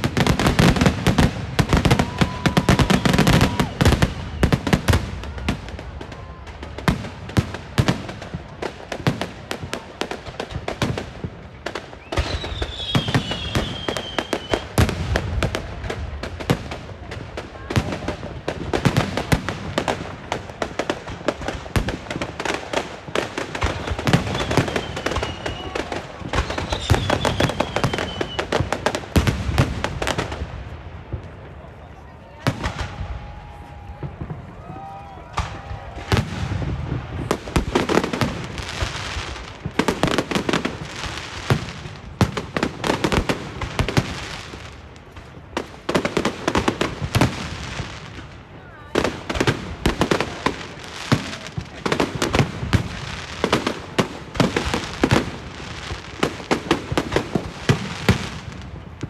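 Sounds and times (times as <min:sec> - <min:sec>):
firecrackers banging: 0:00.0 - 0:59.0.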